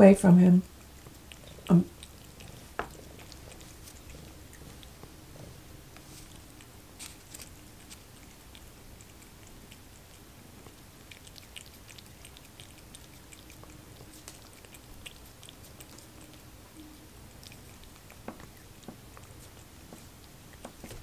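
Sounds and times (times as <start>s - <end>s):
cat tongue wet clicks: 0.6s - 21.0s.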